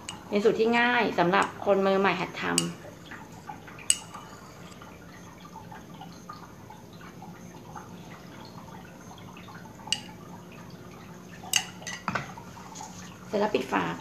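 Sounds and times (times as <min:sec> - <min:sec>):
gel dripping and plopping: 0:00.0 - 0:12.4.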